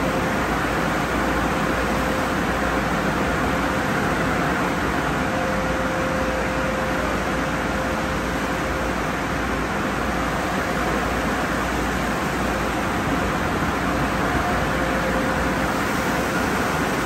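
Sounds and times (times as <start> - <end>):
constant hum: 0.0 - 17.0
spraying water: 0.0 - 17.0.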